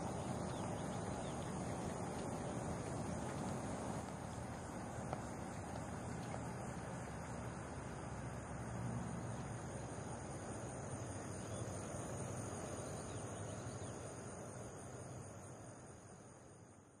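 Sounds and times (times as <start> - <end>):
high-pitched insect chorus: 0.0 - 17.0
outdoor noise: 0.0 - 17.0.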